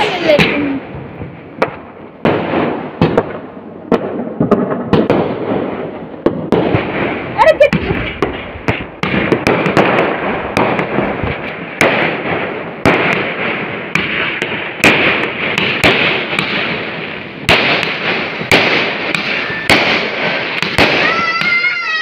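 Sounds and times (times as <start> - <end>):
firecracker crackling: 0.0 - 22.0
firework bangs: 0.0 - 22.0.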